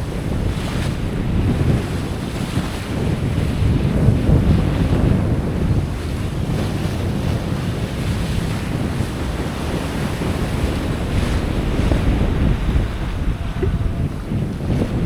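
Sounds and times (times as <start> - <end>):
sea water rushing past yacht: 0.0 - 15.0
wind buffeting microphone: 0.0 - 15.0.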